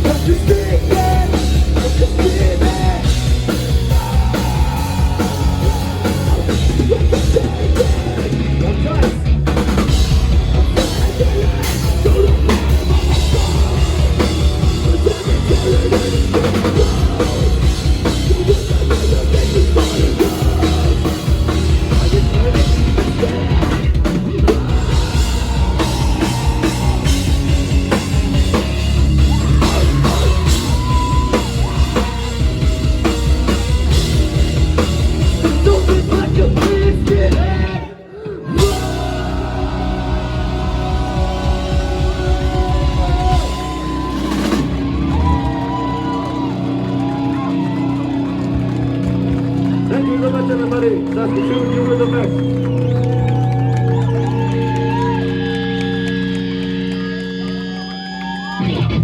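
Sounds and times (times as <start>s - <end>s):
drum kit: 0.0s - 37.8s, 38.5s - 58.0s
live rock band instrumental: 0.0s - 37.9s, 38.5s - 59.0s.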